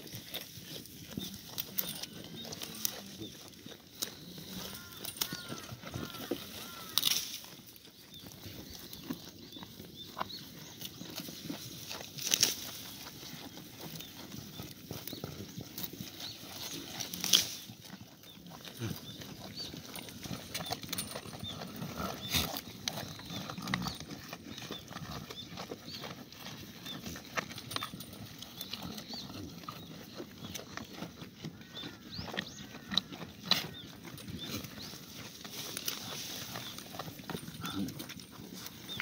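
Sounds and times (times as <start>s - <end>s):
goats chewing weeds: 0.0s - 39.0s
stalks crunching and crackling: 0.0s - 39.0s.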